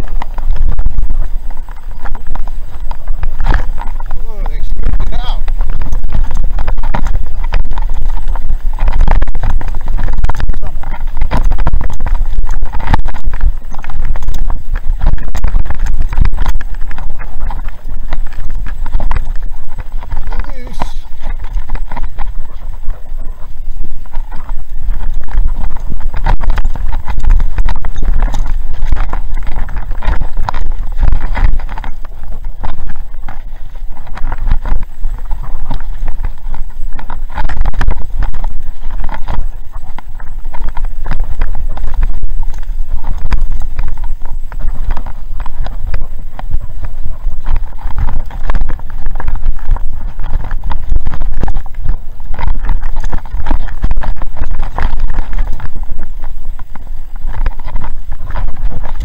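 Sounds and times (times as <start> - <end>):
bike clattering over rough trail: 0.0 - 59.0
steady low rumble: 0.0 - 59.0
wind on microphone: 0.0 - 59.0.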